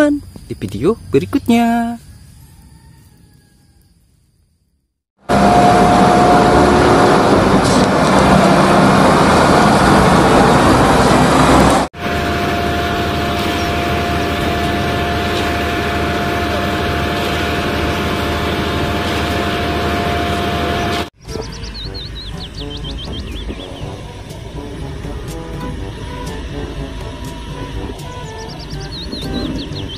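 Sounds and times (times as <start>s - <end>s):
diesel truck engine with whine: 5.2s - 29.9s.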